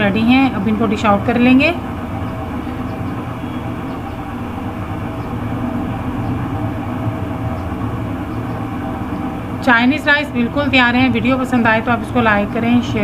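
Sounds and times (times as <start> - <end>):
low mechanical hum: 0.0 - 13.0
even rushing noise: 1.1 - 13.0.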